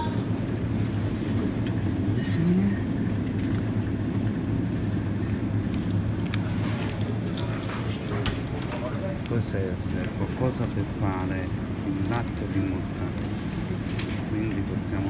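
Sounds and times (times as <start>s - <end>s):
refrigerated display case humming: 0.0s - 15.0s.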